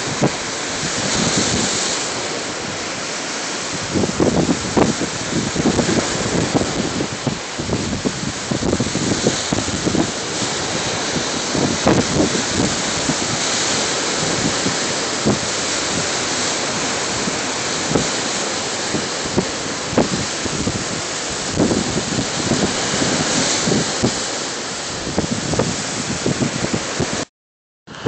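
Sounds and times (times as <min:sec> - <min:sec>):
waves breaking on beach: 0:00.0 - 0:27.3
wind buffeting microphone: 0:00.0 - 0:27.3.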